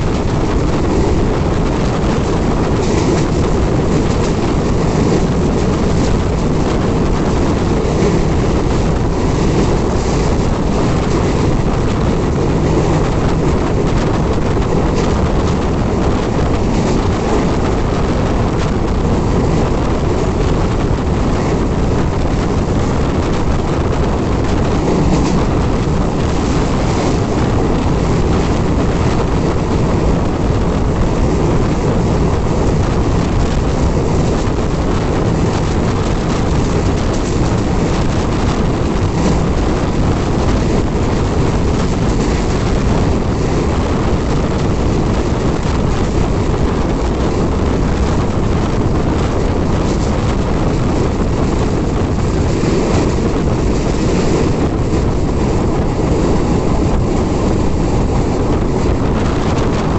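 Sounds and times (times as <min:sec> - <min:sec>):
moving train rumble: 0:00.0 - 0:59.9
wind buffeting microphone: 0:00.0 - 0:59.9.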